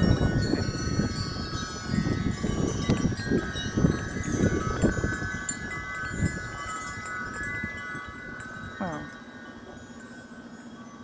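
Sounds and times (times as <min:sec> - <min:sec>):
low rumble of wind gusts: 0:00.0 - 0:11.0
wind chimes ringing: 0:00.0 - 0:11.0.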